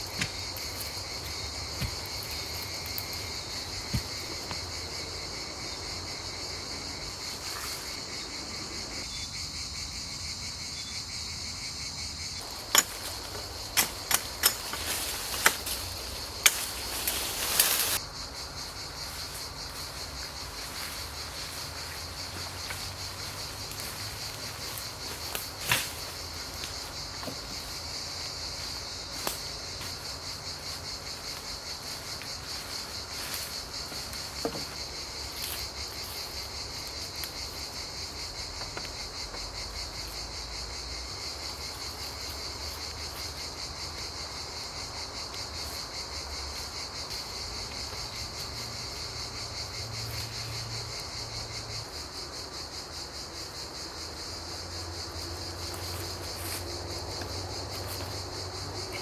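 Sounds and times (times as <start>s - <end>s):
crickets chorus: 0.0s - 59.0s.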